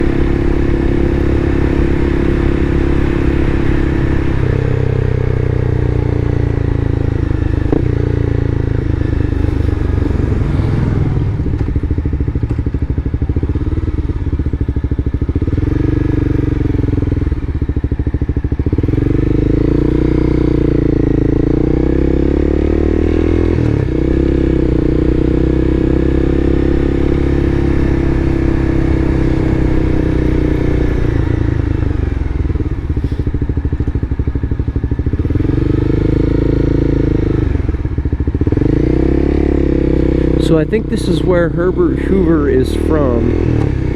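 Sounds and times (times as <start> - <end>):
vehicle engine and road noise: 0.0 - 43.9.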